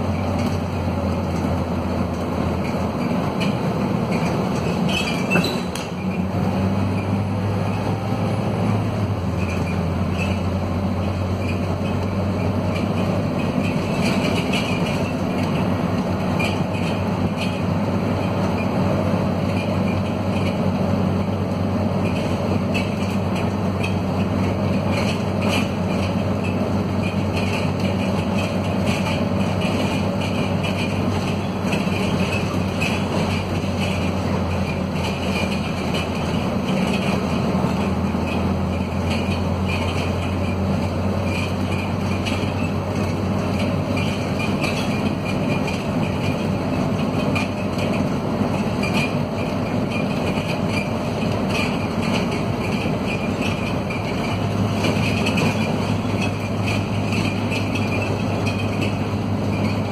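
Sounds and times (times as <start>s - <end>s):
bus diesel engine drone: 0.0s - 59.9s
bus rattling: 0.0s - 59.9s
road noise: 0.0s - 59.9s.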